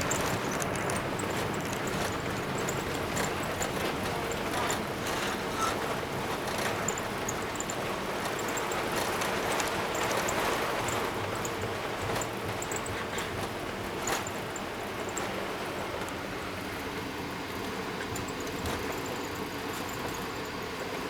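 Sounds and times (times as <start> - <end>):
airplane cabin engine and rolling noise: 0.0 - 21.0
faint high ticks and rattles: 0.0 - 21.0.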